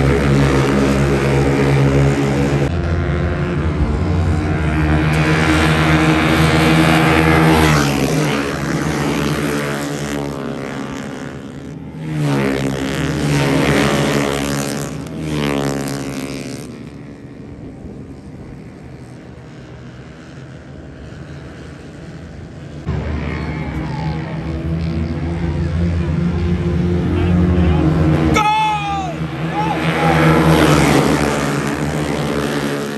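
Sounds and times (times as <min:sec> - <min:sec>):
distant motorcycle engine drone: 0:00.0 - 0:32.9
racing motorcycles passing: 0:00.0 - 0:32.9.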